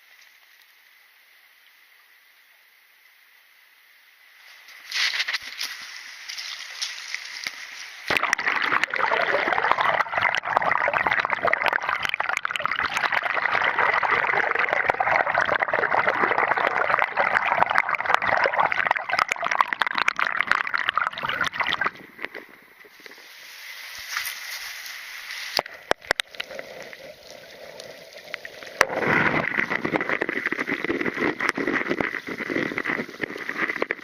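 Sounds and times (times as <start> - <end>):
water running in splashing stream: 4.4 - 34.0.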